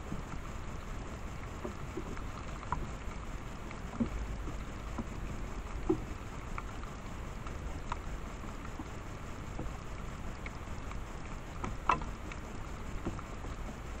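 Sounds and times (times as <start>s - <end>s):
wind rumble and hiss: 0.0s - 14.0s.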